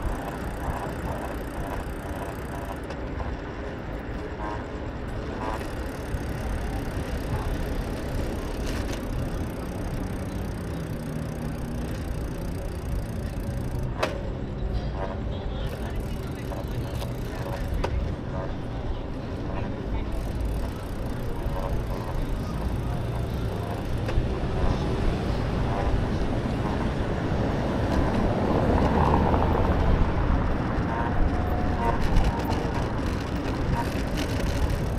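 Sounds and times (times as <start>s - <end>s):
wind rush and road noise: 0.0s - 34.9s
vehicle engine running: 4.4s - 18.9s, 19.5s - 34.9s.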